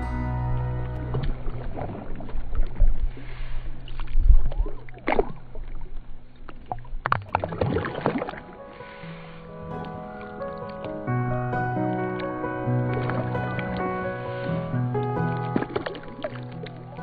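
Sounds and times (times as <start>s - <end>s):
paddle splashing through water: 0.8s - 11.1s, 12.1s - 17.0s.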